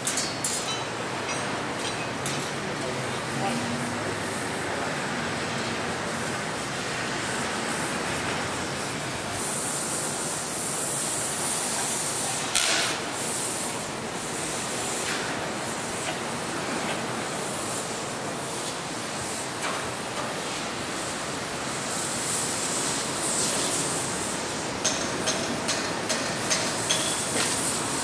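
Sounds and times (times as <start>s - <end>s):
heavy machinery rumble and hiss: 0.0s - 28.0s
higher hiss: 2.9s - 28.0s.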